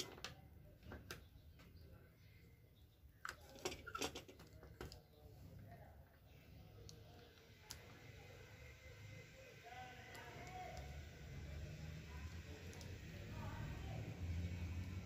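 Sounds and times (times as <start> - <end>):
low steady hum: 0.3 - 15.0.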